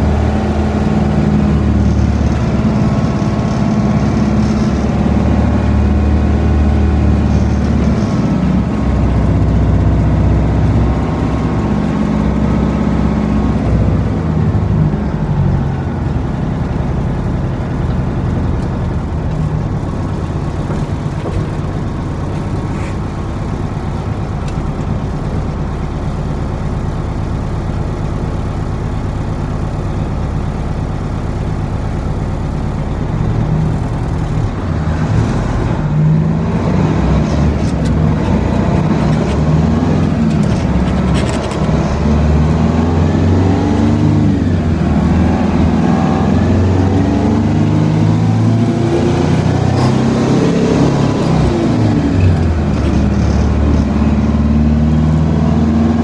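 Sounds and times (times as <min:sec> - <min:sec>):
truck diesel engine revving: 0:00.0 - 0:56.0.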